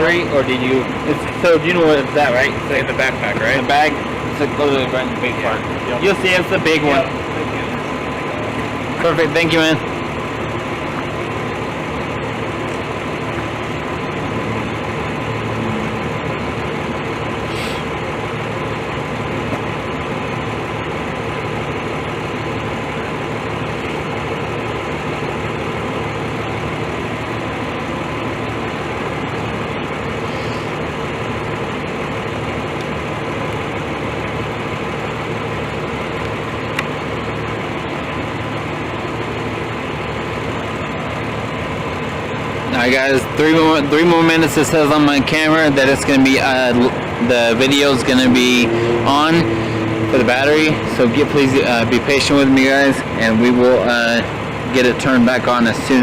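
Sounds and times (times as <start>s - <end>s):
heavy engine idling: 0.0s - 56.0s
thin steady whine: 0.0s - 56.0s.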